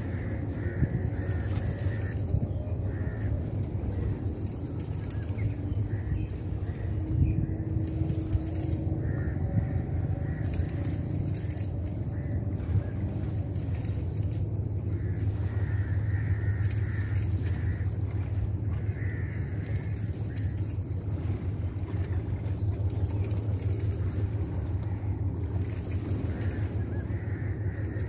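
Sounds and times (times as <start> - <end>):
insects chirring: 0.0 - 28.0
low rumble: 0.0 - 28.0.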